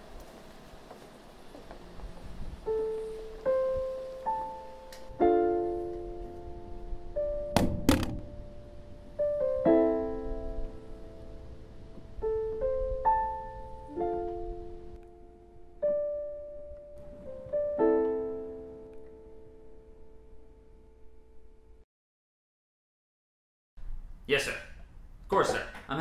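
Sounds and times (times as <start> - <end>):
slow piano chords: 0.0 - 21.8.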